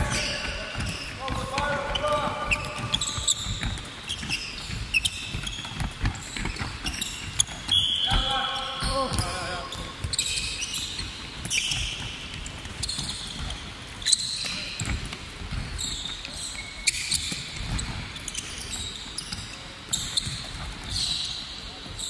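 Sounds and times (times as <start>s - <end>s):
balls thudding: 0.0s - 21.1s
sneakers squeaking on court: 0.0s - 22.0s.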